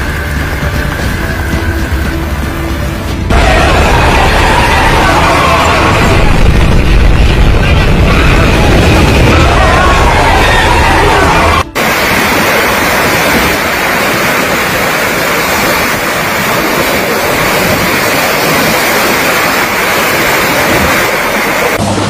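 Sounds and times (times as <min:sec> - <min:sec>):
hail and rain pelting street: 0:00.0 - 0:22.0
rumbling storm: 0:03.2 - 0:22.0.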